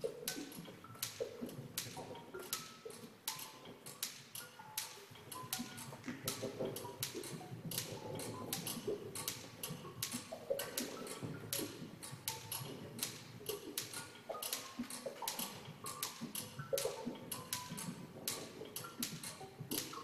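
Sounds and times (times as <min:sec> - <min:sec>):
experimental clicking music: 0:00.0 - 0:20.0.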